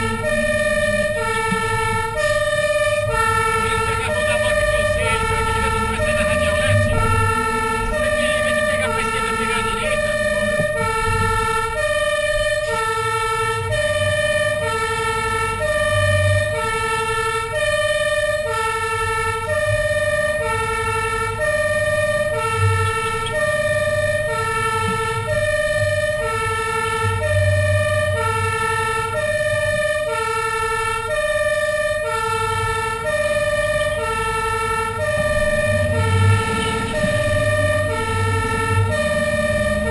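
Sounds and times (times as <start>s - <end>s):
truck rumbling: 0.0s - 39.9s
two-tone siren: 0.0s - 39.9s.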